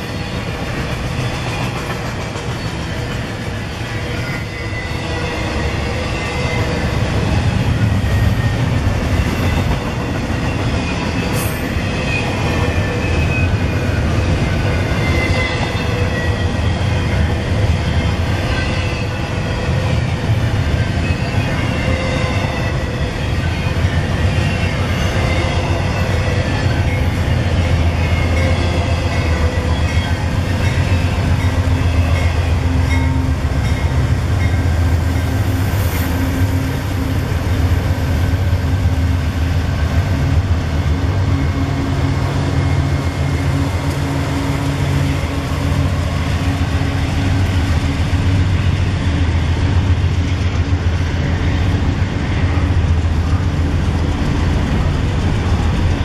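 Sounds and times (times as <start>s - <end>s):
diesel locomotive engine drone: 0.0s - 56.0s
freight train rumbling: 0.0s - 56.0s.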